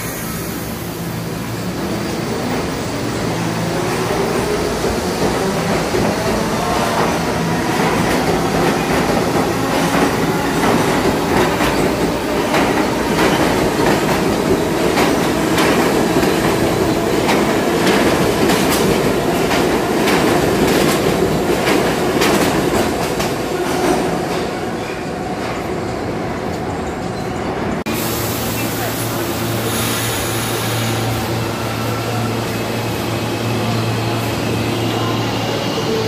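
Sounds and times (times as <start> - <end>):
subway train rumbling past: 0.0 - 36.0.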